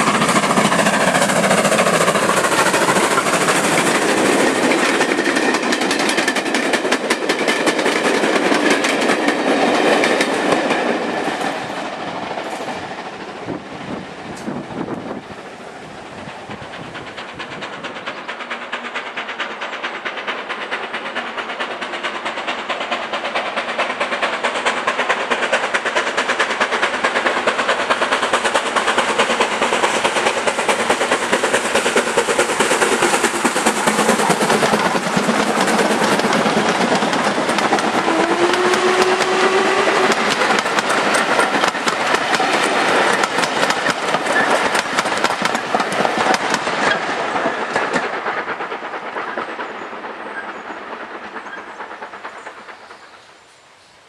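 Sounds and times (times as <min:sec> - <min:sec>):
steam train passing: 0:00.0 - 0:54.0
wheels on rail joints: 0:00.0 - 0:54.0.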